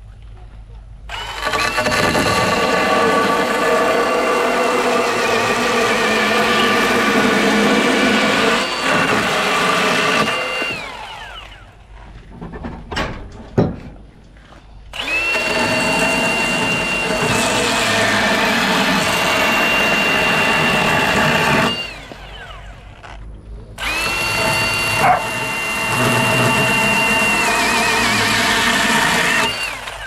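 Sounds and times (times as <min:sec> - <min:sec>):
chainsaw cutting wood: 0:01.1 - 0:11.7, 0:14.9 - 0:23.2, 0:23.8 - 0:30.0.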